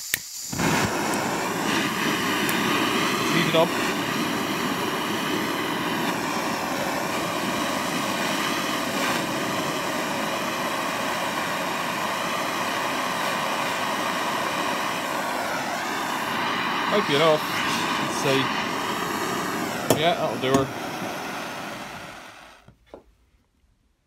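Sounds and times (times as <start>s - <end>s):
blowtorch flame rushing: 0.3s - 22.7s.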